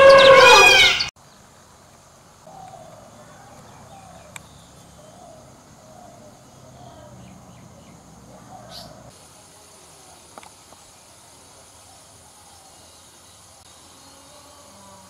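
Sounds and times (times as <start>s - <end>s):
steady high hiss: 1.1s - 15.0s.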